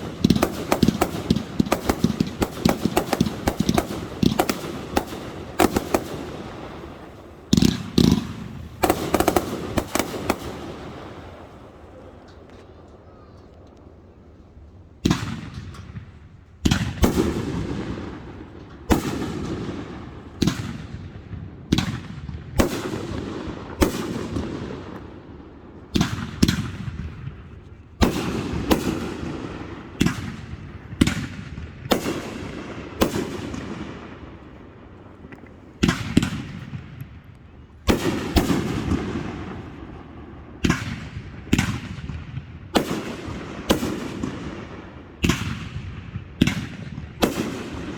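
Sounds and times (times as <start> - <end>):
fireworks bangs: 0.0 - 12.9, 15.0 - 47.9.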